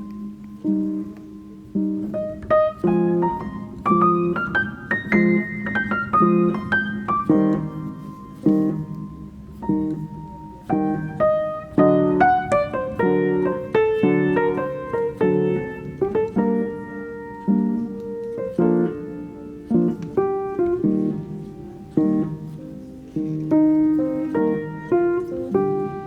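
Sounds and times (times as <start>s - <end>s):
piano melody over sustained chords: 0.0s - 26.0s.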